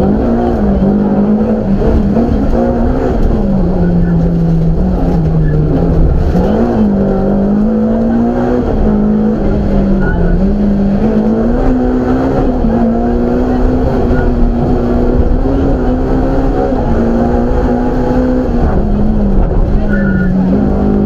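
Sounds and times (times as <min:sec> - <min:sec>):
car engine revving through gears: 0:00.0 - 0:21.0
road and drivetrain noise: 0:00.0 - 0:21.0.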